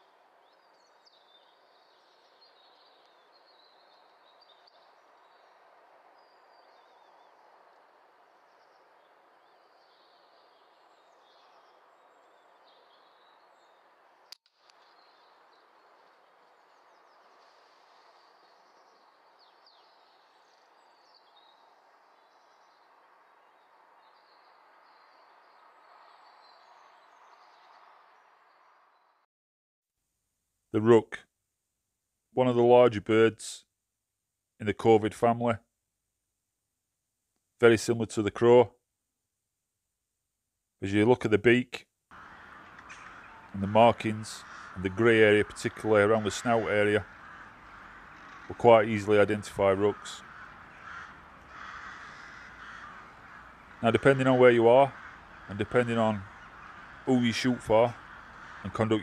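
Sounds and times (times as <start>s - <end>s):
faint woodland birdsong: 0.0s - 29.2s, 40.8s - 59.0s.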